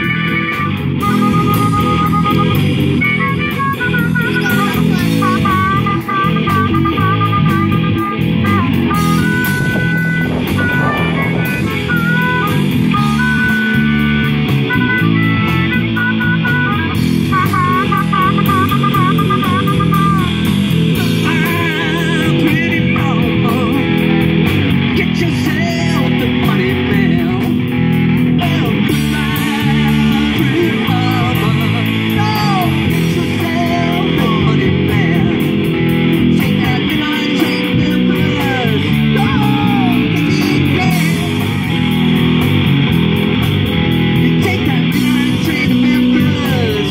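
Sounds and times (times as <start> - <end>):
man singing: 0.0 - 14.3, 17.4 - 41.8, 44.2 - 46.9
harmonica wavering notes: 0.0 - 46.9
rock band playing: 0.0 - 46.9.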